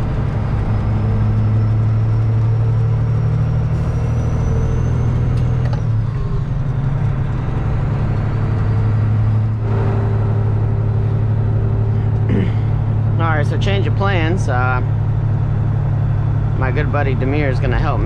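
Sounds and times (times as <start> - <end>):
diesel truck engine drone: 0.0 - 18.0.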